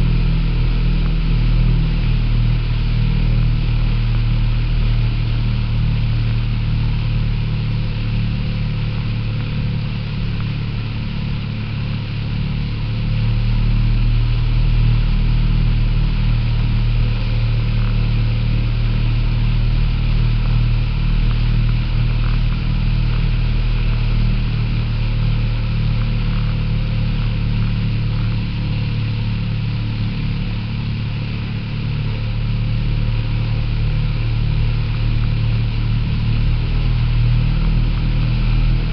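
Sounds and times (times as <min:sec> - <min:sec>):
motorboat engine droning: 0:00.0 - 0:38.9.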